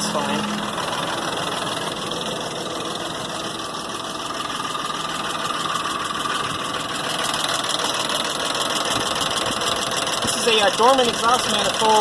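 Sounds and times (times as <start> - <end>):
car engine idling: 0.0 - 12.0
rapid engine tapping: 0.0 - 12.0.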